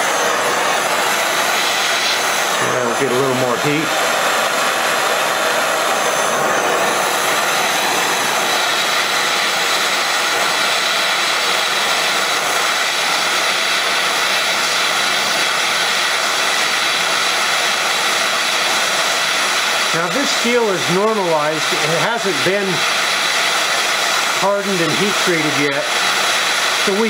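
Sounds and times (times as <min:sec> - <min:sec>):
gas torch hissing: 0:00.0 - 0:27.0.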